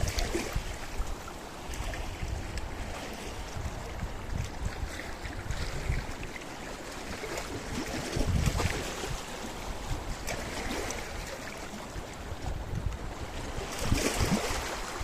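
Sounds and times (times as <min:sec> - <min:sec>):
sea waves on rocky shore: 0:00.0 - 0:15.0.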